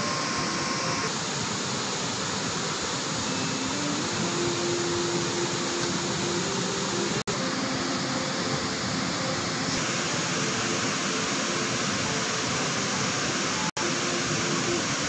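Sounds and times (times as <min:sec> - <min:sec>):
river rapids rushing over rocks: 0:00.0 - 0:15.0.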